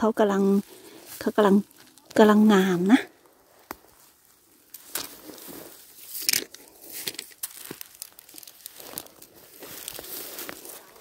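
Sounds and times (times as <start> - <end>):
undergrowth rustling and crackling: 0.0 - 11.0.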